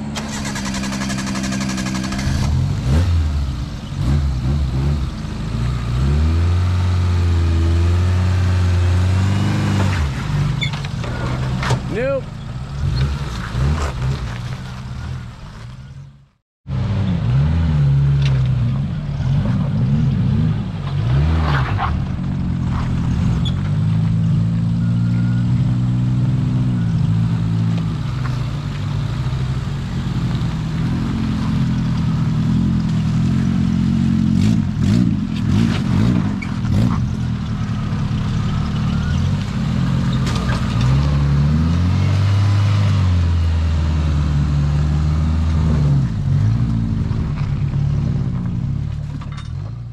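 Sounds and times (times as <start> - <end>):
engine revving under load: 0.0 - 15.5, 16.7 - 48.8.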